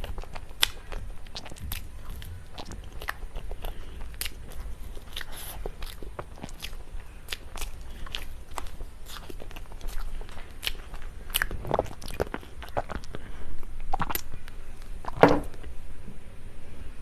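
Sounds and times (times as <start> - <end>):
wet mouth clicks and smacks: 0.0 - 15.6
chewing and biting cake: 0.0 - 15.7.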